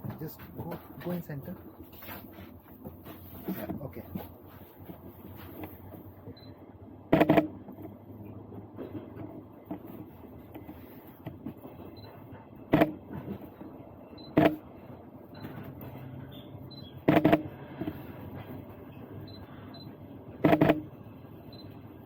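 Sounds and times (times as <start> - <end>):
moving train rumble: 0.0 - 22.0.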